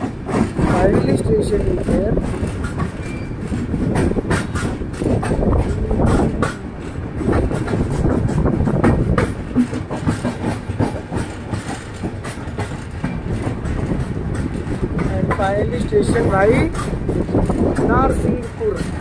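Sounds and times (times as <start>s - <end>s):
coach clattering and rattling: 0.0s - 19.0s
train wheels rumbling on rails: 0.0s - 19.0s.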